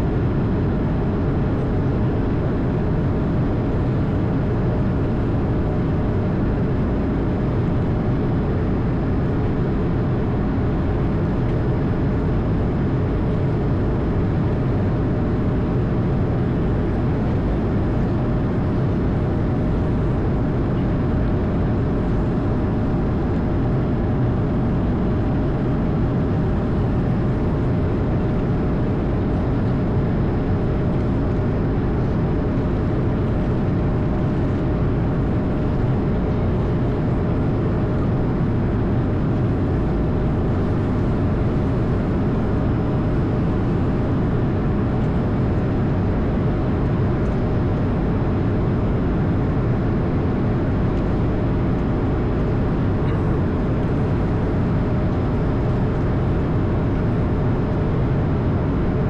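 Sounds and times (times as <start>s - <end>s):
aircraft engines and airflow: 0.0s - 59.0s
faint steady hum: 0.0s - 59.0s.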